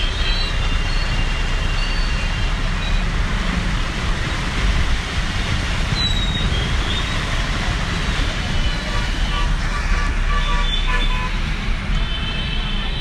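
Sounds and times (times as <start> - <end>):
traffic on wet street: 0.0 - 13.0.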